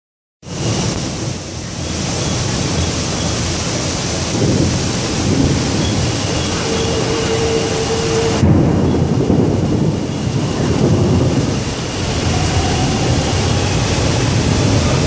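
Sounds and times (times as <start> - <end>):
heavy rain: 0.4 - 15.0
thunder rumbling: 0.4 - 15.0.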